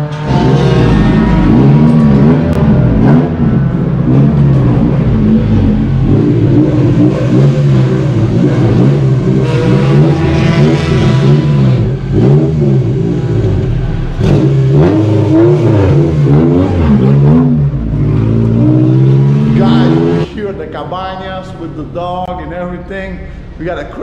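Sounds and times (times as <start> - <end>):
car engine idling: 0.0 - 24.0
engine throttle blips: 0.0 - 24.0.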